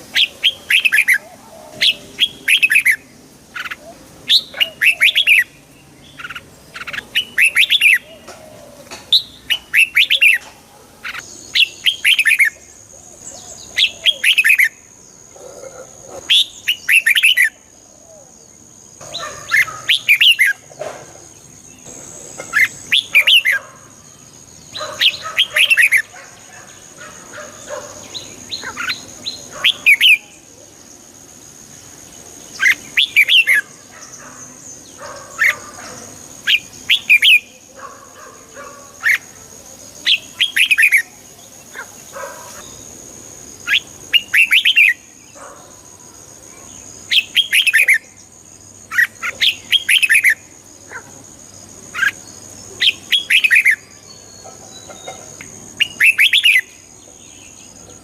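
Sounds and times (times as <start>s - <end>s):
bird singing warbled phrases: 0.0s - 20.8s, 21.4s - 58.0s.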